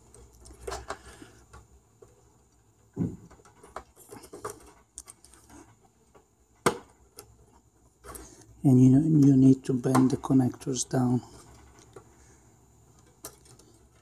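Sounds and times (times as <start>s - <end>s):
wires rustling: 0.0s - 14.0s.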